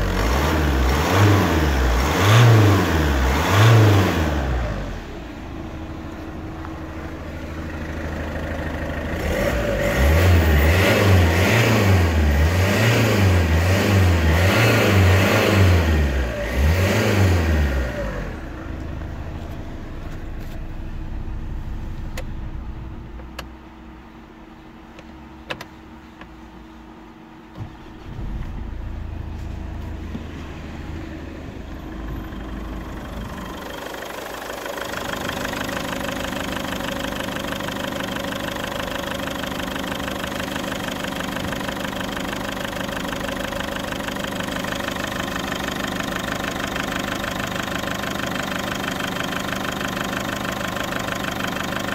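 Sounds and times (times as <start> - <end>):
diesel engine revving and idling: 0.0 - 25.4, 27.0 - 51.9.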